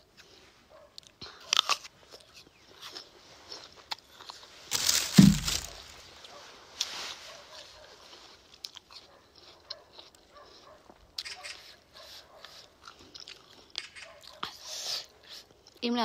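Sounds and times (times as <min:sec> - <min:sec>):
crunchy apple chewing: 0:00.0 - 0:06.4, 0:07.8 - 0:15.8.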